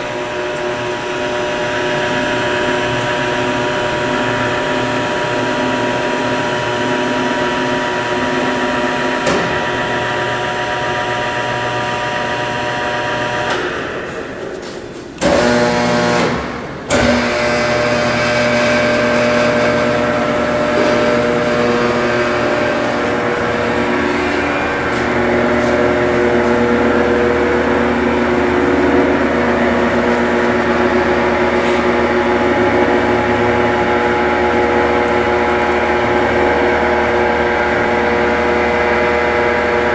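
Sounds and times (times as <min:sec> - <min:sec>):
electric motors humming: 0:00.0 - 0:39.9.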